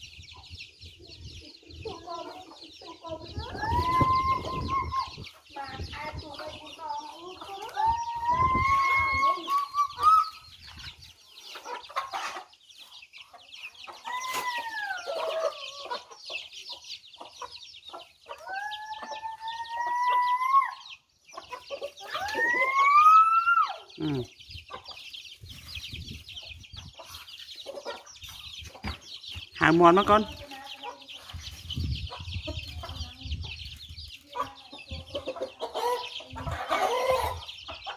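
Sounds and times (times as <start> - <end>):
chicks peeping: 0.0 - 37.9
hens clucking: 0.0 - 37.9.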